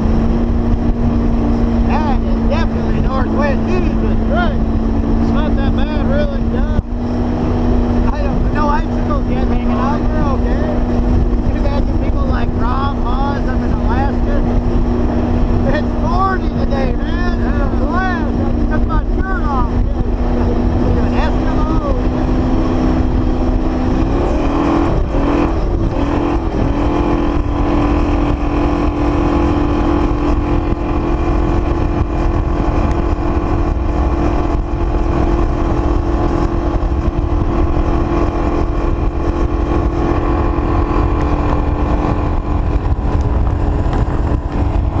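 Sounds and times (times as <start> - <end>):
speedboat engine running: 0.0 - 45.0
wind on microphone: 0.0 - 45.0.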